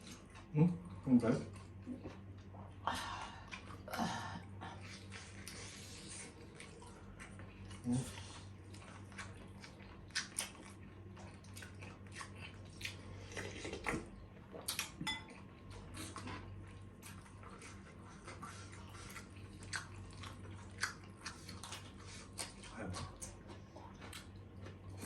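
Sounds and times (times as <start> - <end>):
steady low hum: 0.0 - 25.0
chewing and bites: 4.7 - 25.0.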